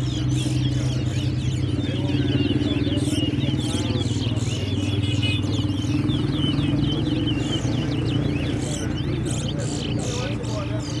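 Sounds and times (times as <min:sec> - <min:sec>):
finches chirping songs: 0:00.0 - 0:11.0
steady engine drone: 0:00.0 - 0:11.0.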